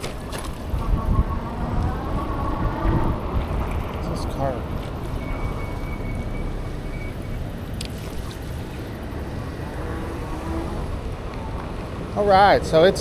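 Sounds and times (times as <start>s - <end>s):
wind buffeting microphone: 0.0s - 13.0s
low rumble: 0.6s - 12.2s.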